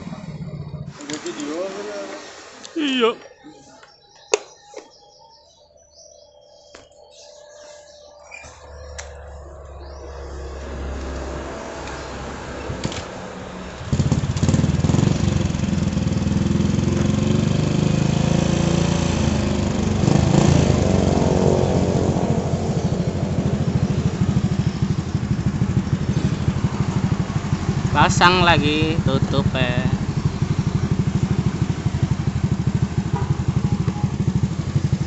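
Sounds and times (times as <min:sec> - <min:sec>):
motorcycle engine starting and running: 0:00.0 - 0:03.0, 0:08.4 - 0:35.0.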